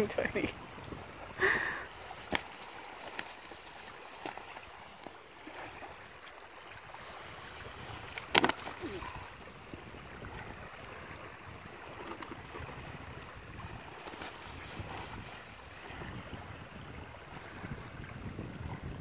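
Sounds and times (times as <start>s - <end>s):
light wind: 0.0s - 19.0s
waves lapping on shore: 0.0s - 19.0s.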